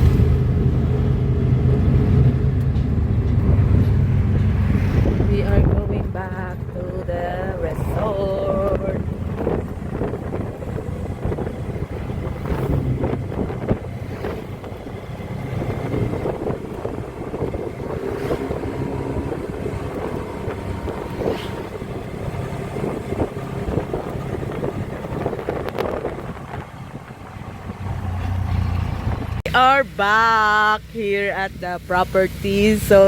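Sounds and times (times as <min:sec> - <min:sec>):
wind buffeting microphone: 0:00.0 - 0:29.5
vehicle engine running: 0:00.0 - 0:33.0.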